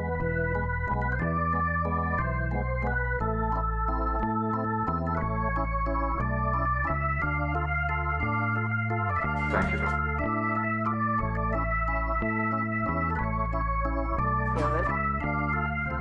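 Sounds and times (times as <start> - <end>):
low bass notes: 0.0 - 16.0
organ-like keyboard chords: 0.0 - 16.0.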